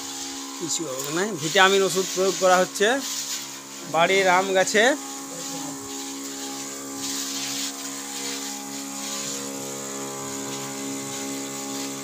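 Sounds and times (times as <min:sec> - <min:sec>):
crop spray machine droning: 0:00.0 - 0:12.0
spray hiss: 0:00.0 - 0:12.0.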